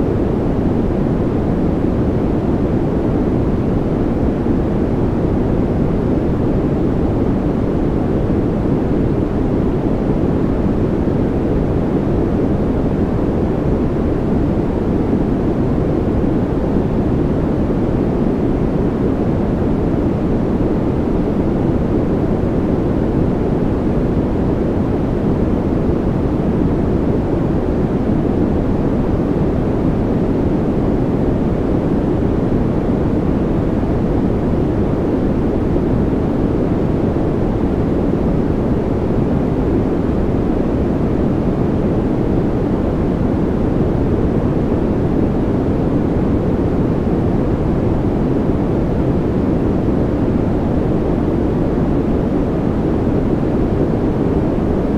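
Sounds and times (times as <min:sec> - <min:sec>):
deep white noise: 0:00.0 - 0:54.9.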